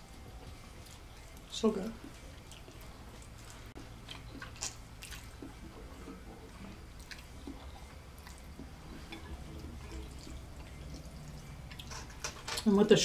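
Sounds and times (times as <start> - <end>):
person chewing and slurping noodles: 0.0 - 12.6.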